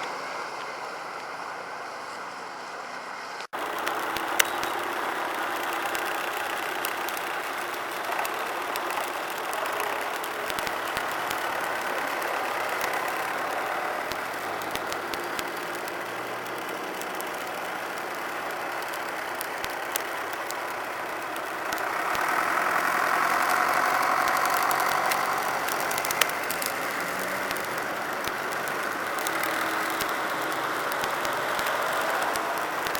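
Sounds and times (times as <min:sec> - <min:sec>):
tractor engines running: 0:00.0 - 0:32.9.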